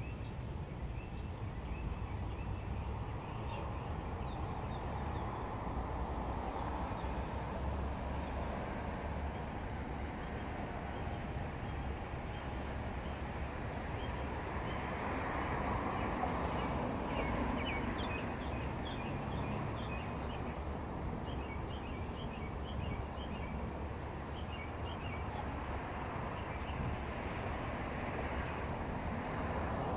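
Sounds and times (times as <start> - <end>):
street traffic noise: 0.0 - 29.9.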